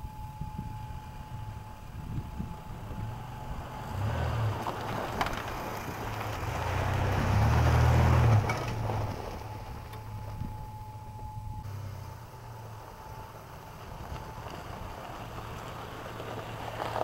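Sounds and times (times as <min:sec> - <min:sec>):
pickup engine humming: 0:00.0 - 0:17.0
tyres crunching on gravel: 0:01.3 - 0:17.0.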